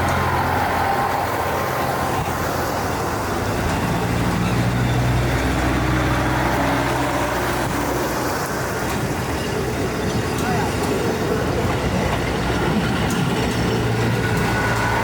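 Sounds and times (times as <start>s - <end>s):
diesel train engine humming: 0.0s - 15.0s.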